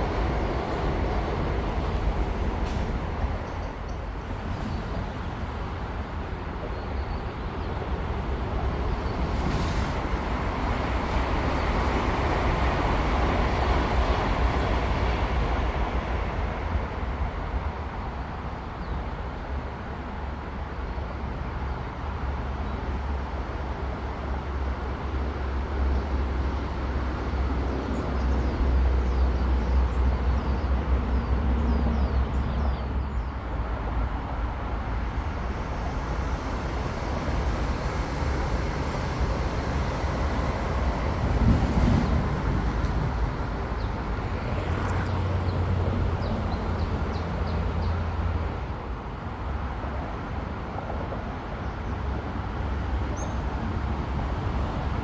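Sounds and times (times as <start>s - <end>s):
distant high-speed train passing: 0.0s - 55.0s.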